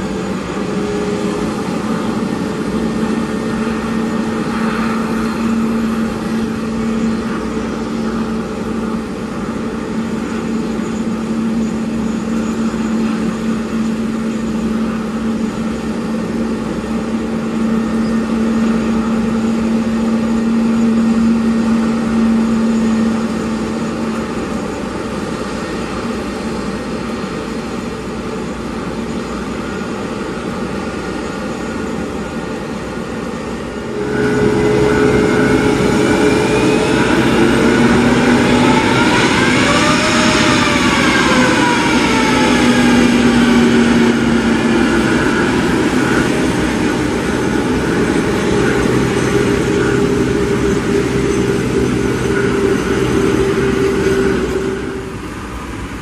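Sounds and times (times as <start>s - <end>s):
jet aircraft noise: 0.0s - 56.0s.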